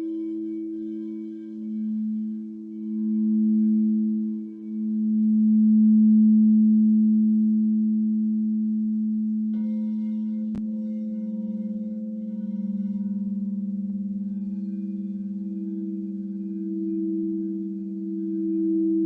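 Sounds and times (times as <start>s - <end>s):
crystal singing bowls: 0.0s - 19.0s
higher-pitched singing bowl: 0.0s - 19.0s.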